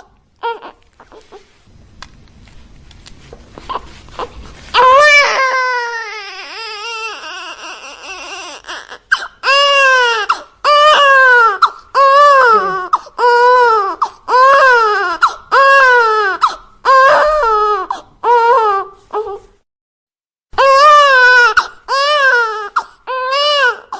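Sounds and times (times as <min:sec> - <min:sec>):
baby crying: 0:00.0 - 0:01.5, 0:03.7 - 0:19.5, 0:20.6 - 0:23.9.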